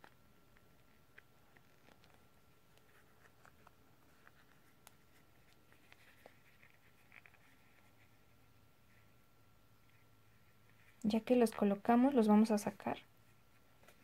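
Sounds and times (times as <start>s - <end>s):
soft rustling: 0.0s - 14.0s.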